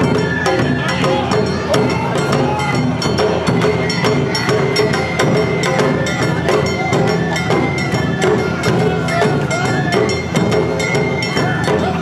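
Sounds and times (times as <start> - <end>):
bamboo flute melody: 0.0 - 12.0
drums beating: 0.0 - 12.0.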